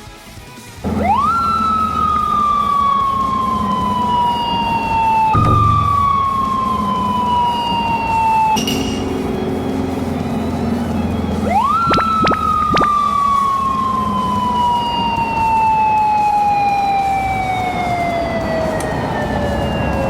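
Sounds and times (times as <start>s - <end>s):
motorcycle siren wailing: 0.8s - 20.0s.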